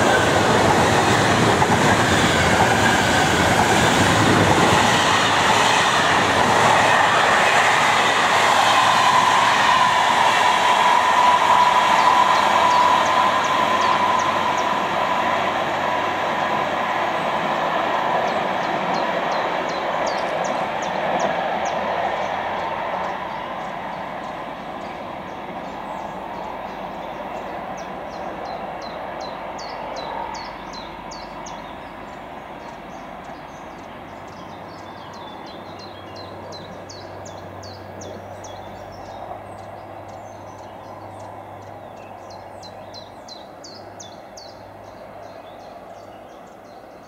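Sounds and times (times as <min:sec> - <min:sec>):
train coaches rolling on rails: 0:00.0 - 0:47.0.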